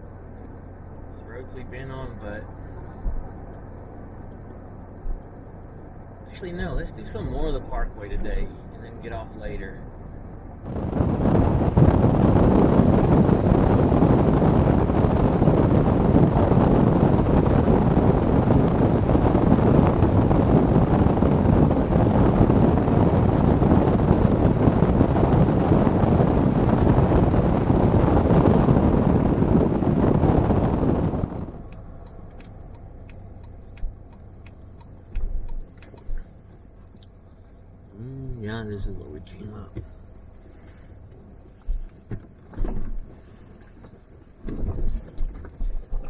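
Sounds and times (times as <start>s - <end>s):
low hum: 0.0s - 46.0s
road and wind noise: 0.0s - 46.0s.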